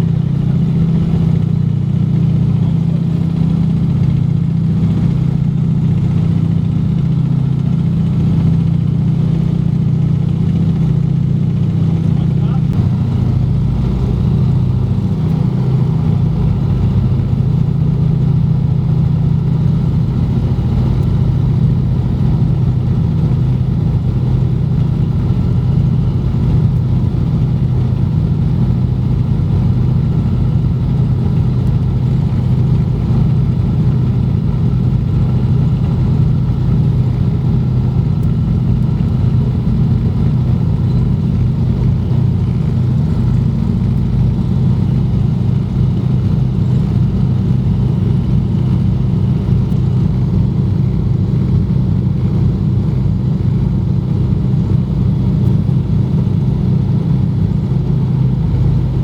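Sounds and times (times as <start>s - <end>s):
radial engines droning: 0.0s - 59.0s.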